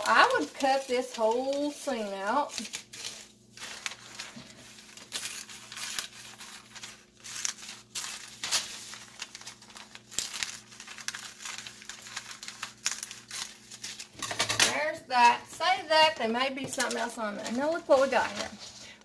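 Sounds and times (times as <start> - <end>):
paper rustling and crinkling: 0.0 - 14.7, 15.3 - 19.0.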